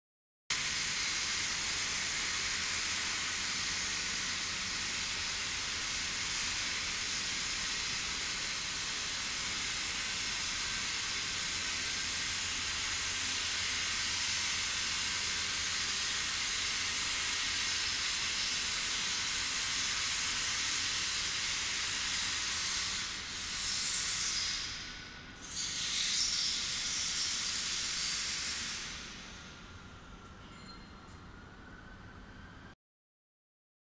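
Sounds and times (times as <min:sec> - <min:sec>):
steady high hiss: 0:00.6 - 0:32.5.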